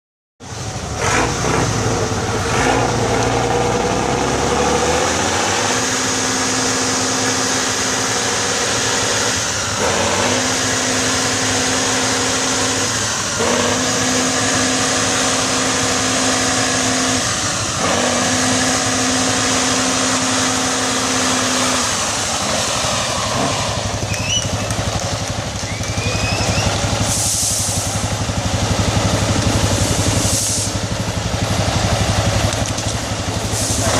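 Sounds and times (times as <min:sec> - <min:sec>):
diesel truck engine under load: 0:00.4 - 0:33.9.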